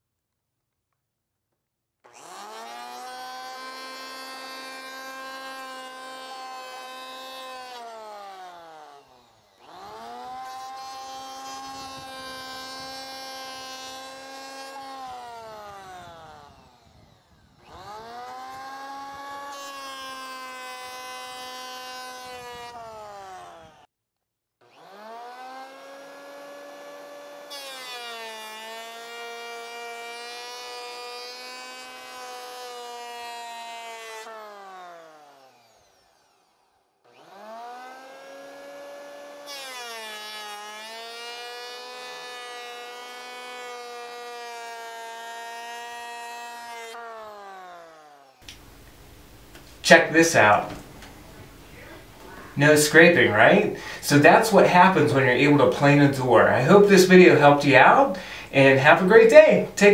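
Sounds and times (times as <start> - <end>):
electric hand planer whining: 2.0 - 23.9, 24.6 - 59.9.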